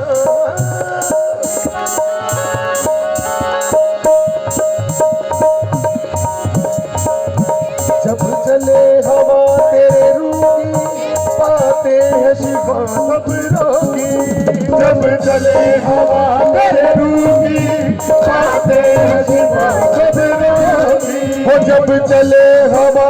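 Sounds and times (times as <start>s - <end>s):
sliding melodic part: 0.0s - 21.6s
held melody line: 0.0s - 23.0s
percussion rhythm: 0.0s - 23.0s.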